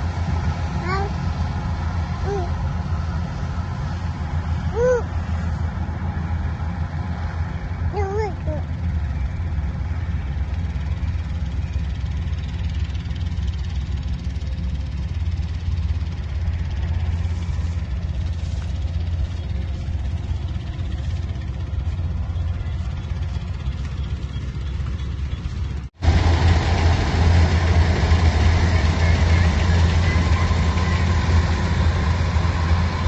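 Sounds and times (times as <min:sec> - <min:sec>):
machine engine humming: 0:00.0 - 0:33.0.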